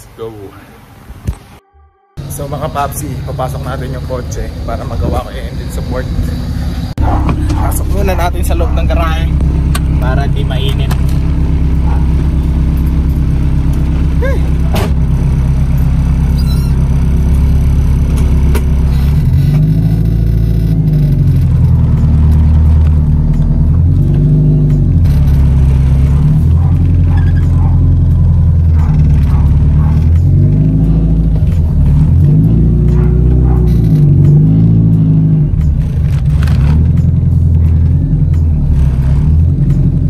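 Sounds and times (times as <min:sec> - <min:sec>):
car engine idling and revving: 0:02.2 - 0:40.0.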